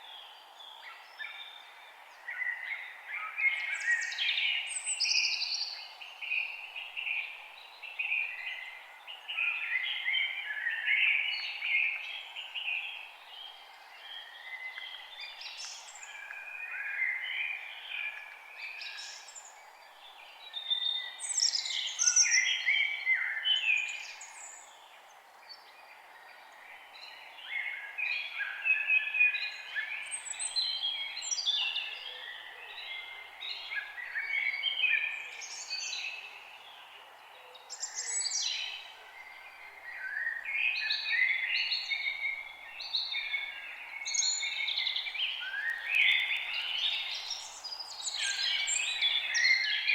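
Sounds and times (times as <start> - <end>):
faint background hiss: 0.0 - 49.9
forest birds singing: 0.0 - 49.9.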